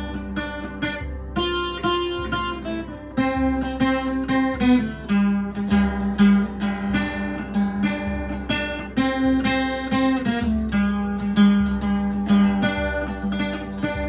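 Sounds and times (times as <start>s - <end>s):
mandolin strummed chords: 0.0s - 14.0s.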